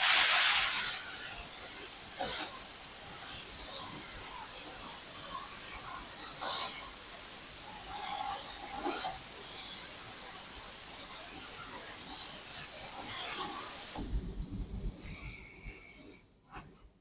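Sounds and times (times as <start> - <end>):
plasma torch hissing: 0.0 - 16.7.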